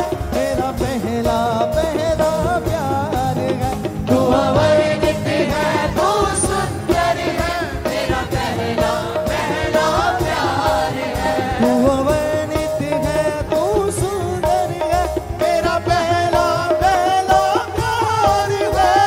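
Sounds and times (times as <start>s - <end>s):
live worship band playing: 0.0s - 19.0s.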